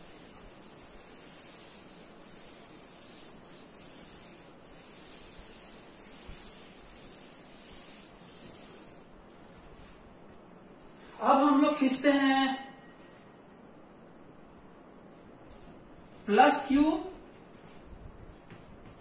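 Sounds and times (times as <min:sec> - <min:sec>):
cloth wiping a chalkboard: 0:00.0 - 0:12.0, 0:15.2 - 0:19.0.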